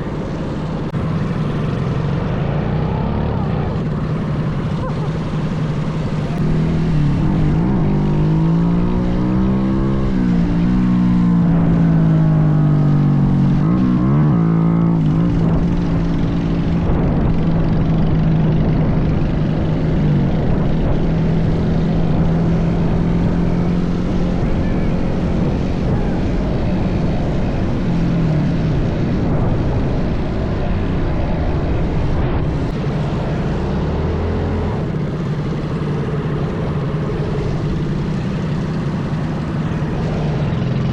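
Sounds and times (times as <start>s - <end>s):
minibike engine revving: 0.0s - 40.9s.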